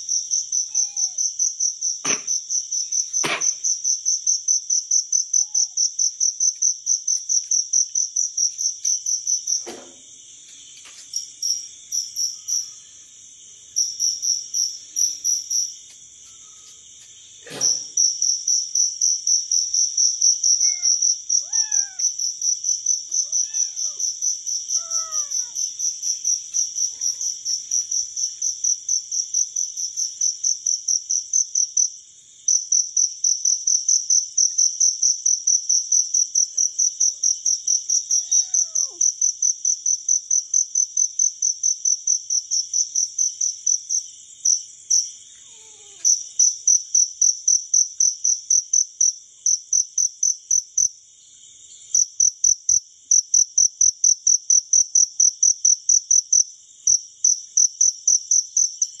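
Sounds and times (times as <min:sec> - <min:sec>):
cricket chirping: 0:00.0 - 0:59.0
faint insect trill: 0:00.0 - 0:59.0.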